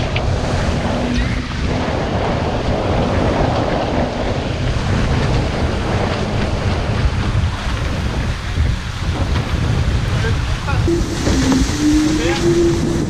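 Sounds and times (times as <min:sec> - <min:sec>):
water rushing along hulls: 0:00.0 - 0:13.0
wind rumble on microphone: 0:00.0 - 0:13.0.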